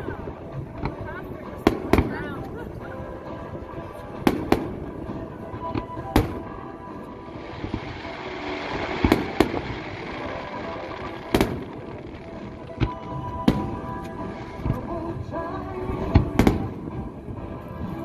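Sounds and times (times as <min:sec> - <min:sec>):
fireworks booming overhead: 0:00.0 - 0:18.0.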